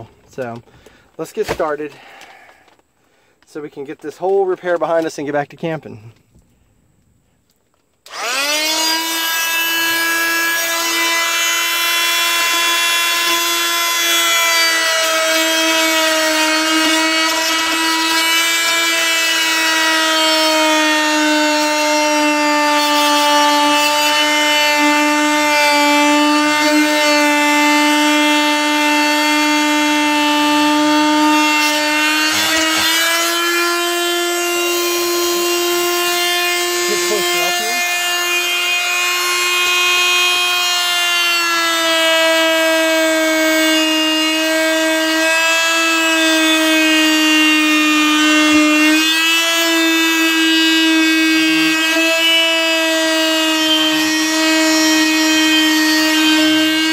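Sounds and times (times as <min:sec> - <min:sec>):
oscillating multi-tool buzzing: 0:08.1 - 0:56.9.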